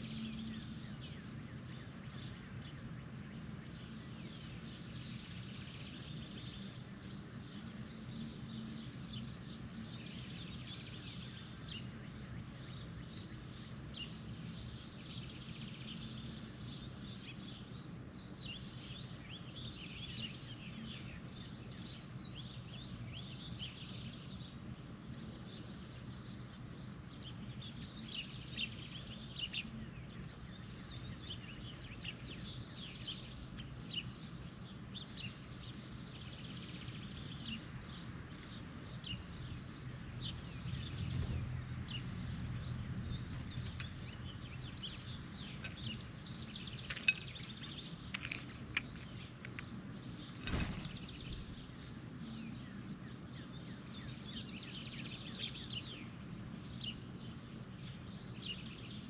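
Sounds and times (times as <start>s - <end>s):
birds chirping: 0.0s - 59.0s
low outdoor hum: 0.0s - 59.0s.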